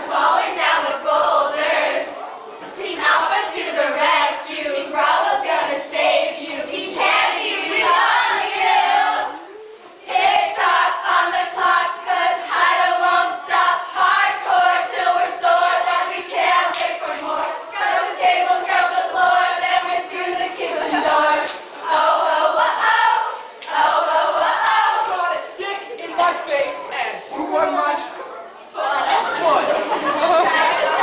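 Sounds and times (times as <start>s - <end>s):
young voices singing in unison: 0.0s - 27.4s, 28.7s - 31.0s.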